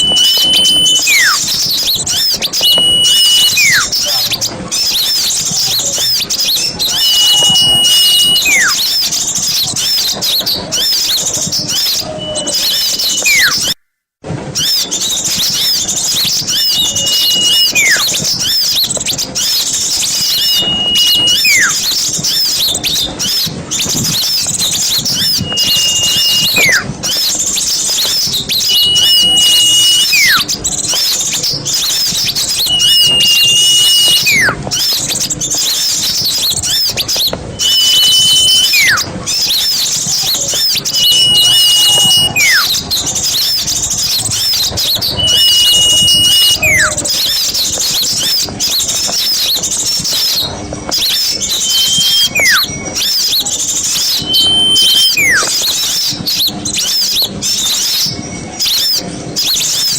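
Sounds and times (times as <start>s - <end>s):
downward-sliding whistle: 0.0s - 4.3s, 5.0s - 13.8s, 14.6s - 48.5s, 49.1s - 59.9s
clear held whistle: 0.0s - 13.8s, 14.6s - 59.9s
songbirds chattering and twittering: 0.0s - 13.8s, 14.5s - 59.9s.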